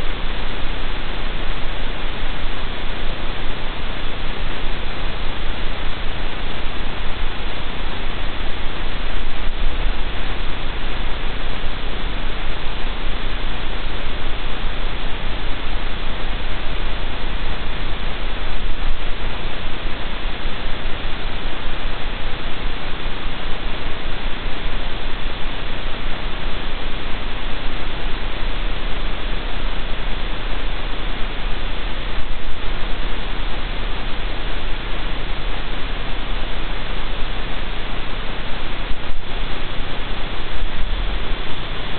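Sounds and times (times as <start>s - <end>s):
static hiss: 0.0s - 41.9s.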